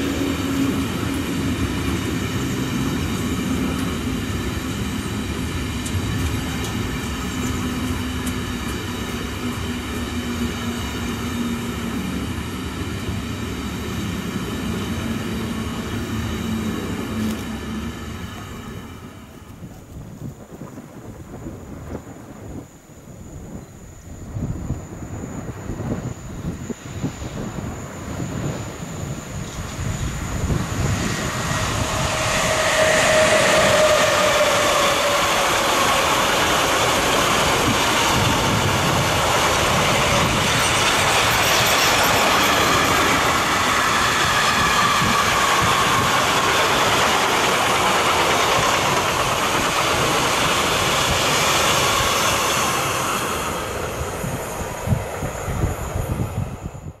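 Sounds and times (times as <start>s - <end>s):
freight wagons rumbling on rails: 0.0s - 22.2s, 24.4s - 56.8s
electric locomotive passing: 0.0s - 57.0s.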